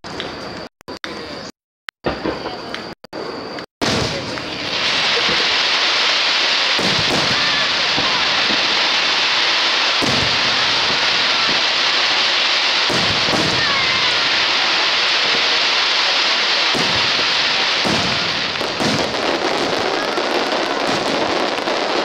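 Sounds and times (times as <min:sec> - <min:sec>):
firework shells booming: 0:03.8 - 0:22.0.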